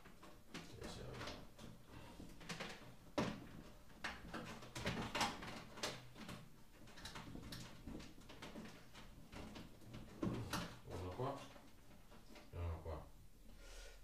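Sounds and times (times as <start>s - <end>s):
light clicks and knocks: 0.0s - 12.5s.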